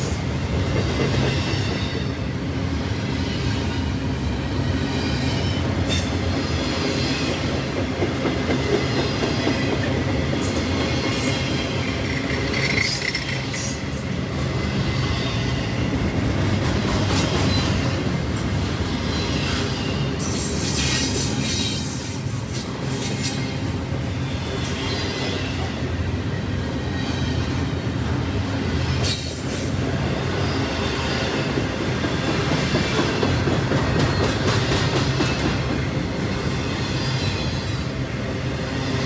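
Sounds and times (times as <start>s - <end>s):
train wheels rumbling and clattering: 0.0s - 39.0s.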